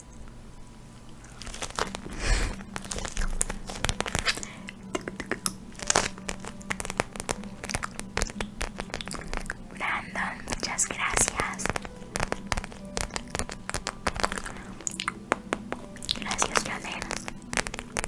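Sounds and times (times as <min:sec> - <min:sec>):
pad crinkling and crackling: 0:00.0 - 0:18.0.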